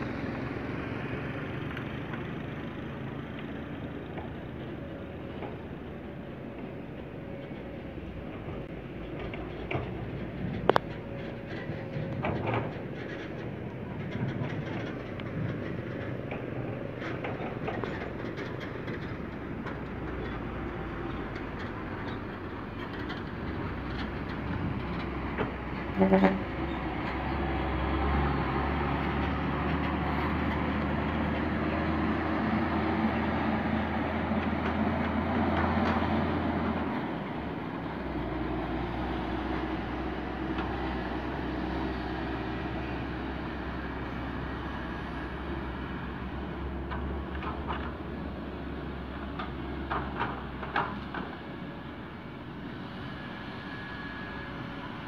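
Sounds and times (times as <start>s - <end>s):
dump truck diesel engines rumbling: 0.0s - 55.0s.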